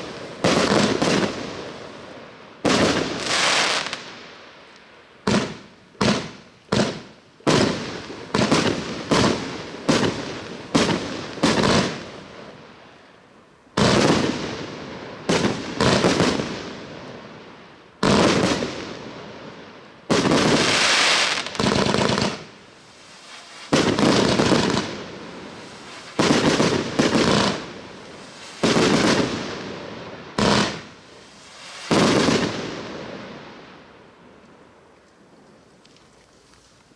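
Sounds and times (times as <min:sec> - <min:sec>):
fireworks bangs: 0:00.0 - 0:04.3, 0:05.2 - 0:12.7, 0:13.8 - 0:17.4, 0:18.0 - 0:34.0.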